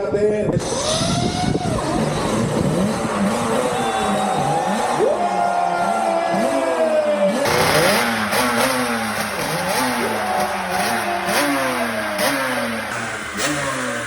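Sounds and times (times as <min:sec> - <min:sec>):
motorcycle engine revving: 0:00.5 - 0:14.0.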